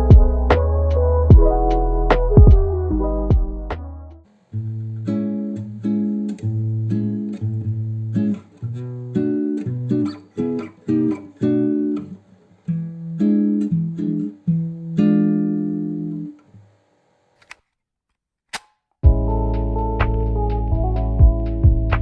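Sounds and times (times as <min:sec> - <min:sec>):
guitar playing chords: 0:00.0 - 0:16.4, 0:19.1 - 0:22.0.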